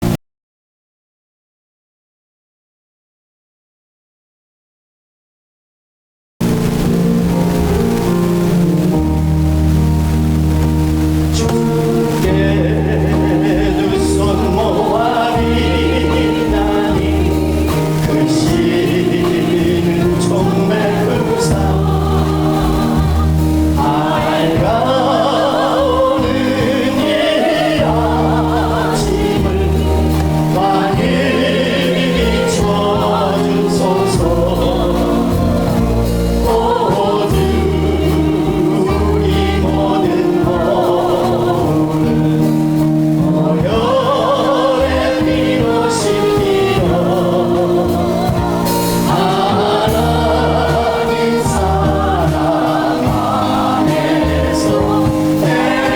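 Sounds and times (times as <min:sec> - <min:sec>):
instrumental accompaniment: 0:06.4 - 0:55.9
choir singing a hymn: 0:07.5 - 0:55.9.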